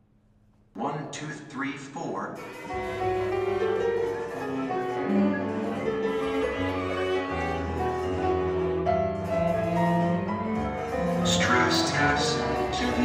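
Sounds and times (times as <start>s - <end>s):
keyboard: 1.2s - 13.0s
cello bowing sustained notes: 2.5s - 13.0s.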